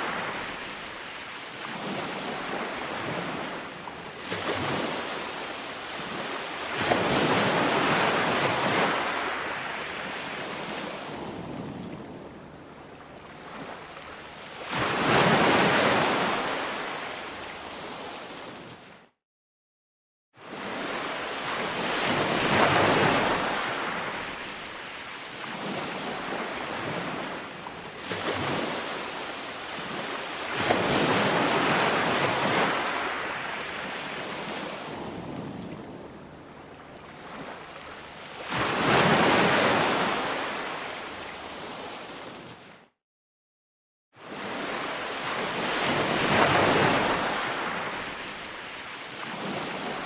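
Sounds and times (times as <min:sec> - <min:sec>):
ocean waves breaking on shore: 0:00.0 - 0:19.2, 0:20.4 - 0:43.0, 0:44.2 - 0:50.0.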